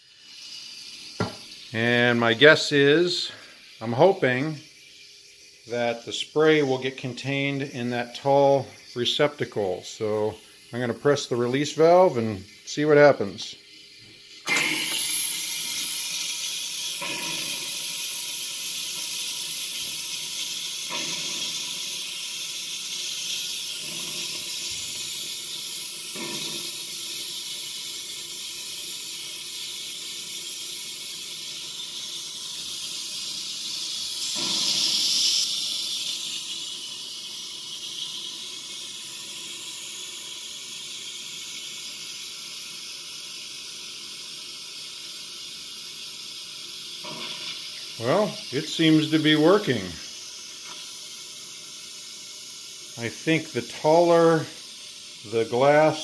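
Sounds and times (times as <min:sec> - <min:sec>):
pressure cooker steam hissing: 0:00.0 - 0:56.0.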